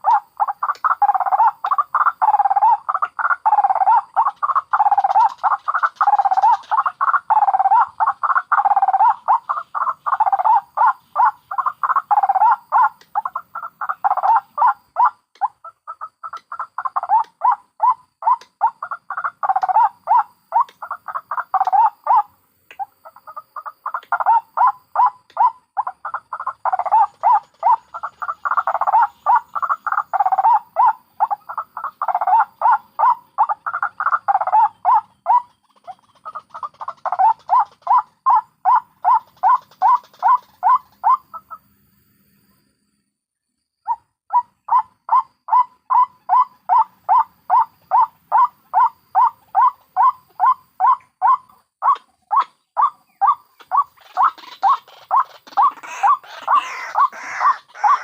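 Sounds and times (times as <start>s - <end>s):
waterhens calling repeated notes: 0.0s - 41.7s, 43.8s - 58.0s.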